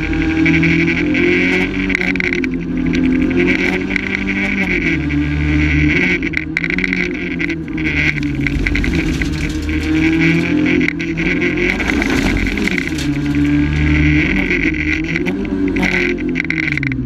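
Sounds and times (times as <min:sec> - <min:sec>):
rally car engine revving hard: 0:00.0 - 0:17.0.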